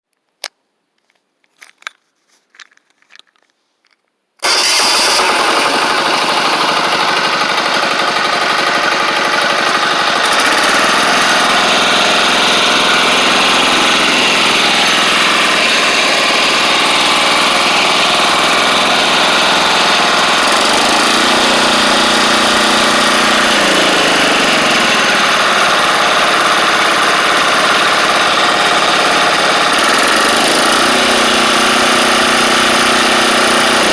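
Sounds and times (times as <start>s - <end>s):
diesel engine running: 4.4s - 33.9s.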